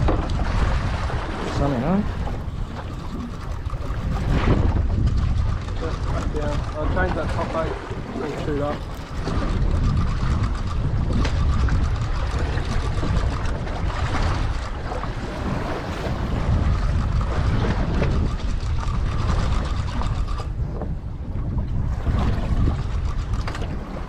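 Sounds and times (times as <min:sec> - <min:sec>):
boat noise at sea: 0:00.0 - 0:24.0
wind rumbling on microphone: 0:00.0 - 0:24.0.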